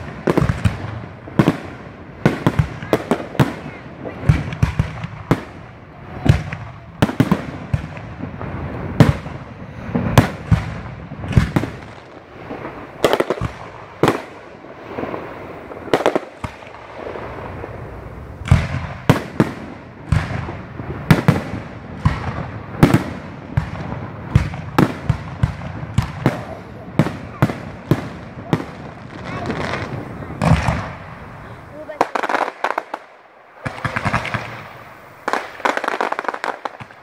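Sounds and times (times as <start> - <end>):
fireworks bangs: 0.0 - 37.0
fireworks crackling hiss: 0.0 - 37.0.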